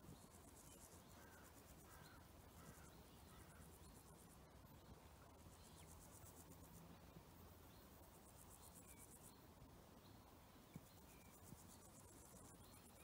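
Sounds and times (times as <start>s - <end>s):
distant bird chirps: 0.0s - 13.0s
insects chirping in trills: 0.0s - 13.0s.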